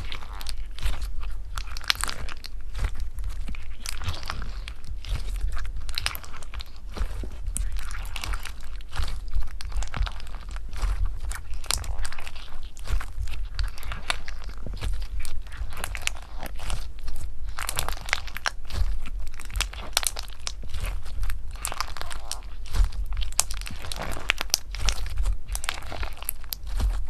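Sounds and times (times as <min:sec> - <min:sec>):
slime crackling and crunching: 0:00.0 - 0:27.0.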